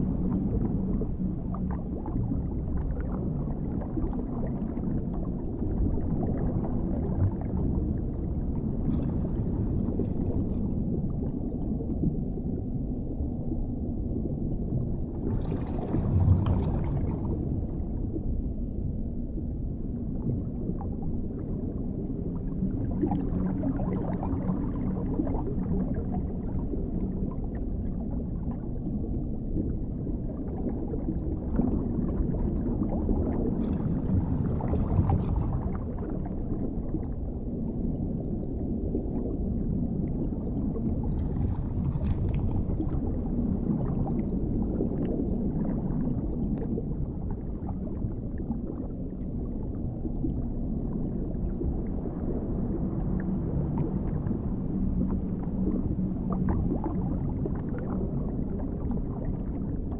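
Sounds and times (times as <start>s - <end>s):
gurgling water: 0.0s - 59.9s
muffled underwater rumble: 0.0s - 59.9s.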